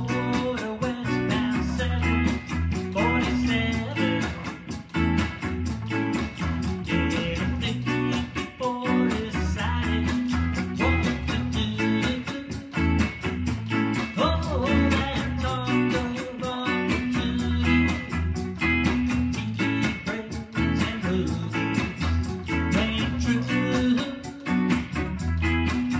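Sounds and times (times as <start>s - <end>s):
reggae music: 0.0s - 25.9s.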